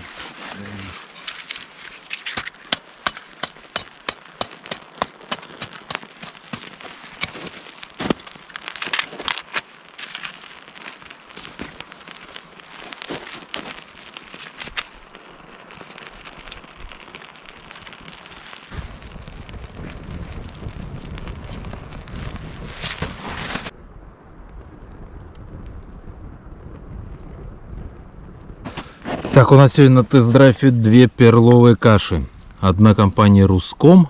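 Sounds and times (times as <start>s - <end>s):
kindling crackling and snapping: 0.0s - 34.0s
soft fire hiss: 0.0s - 34.0s.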